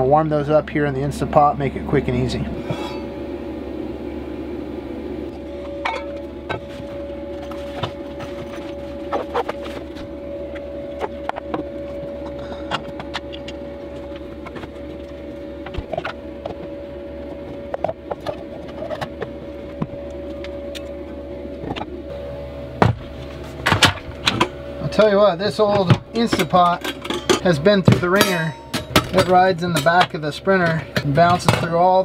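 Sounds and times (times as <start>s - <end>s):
steady hum with faint whine: 0.0s - 32.0s.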